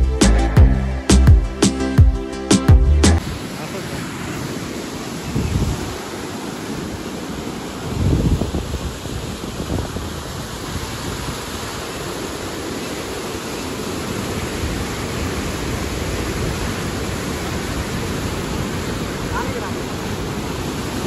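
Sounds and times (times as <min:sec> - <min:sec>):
river water rushing: 0:03.2 - 0:21.0.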